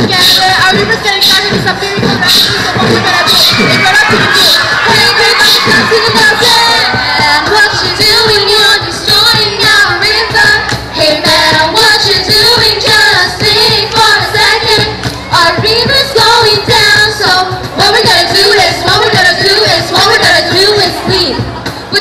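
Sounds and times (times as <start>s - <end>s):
backing track with steady beat: 0.0s - 22.0s
young voices singing together: 0.0s - 22.0s.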